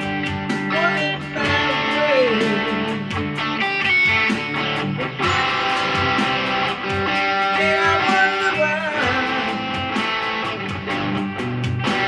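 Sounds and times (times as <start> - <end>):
electric guitar lead line: 0.0 - 12.0
steady backing beat: 0.0 - 12.0.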